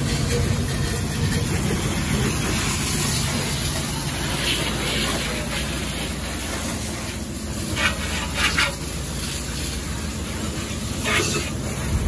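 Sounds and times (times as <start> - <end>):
steady low rumble: 0.0 - 12.0
water spraying: 0.0 - 12.0
brush scrubbing a van panel: 1.4 - 12.0.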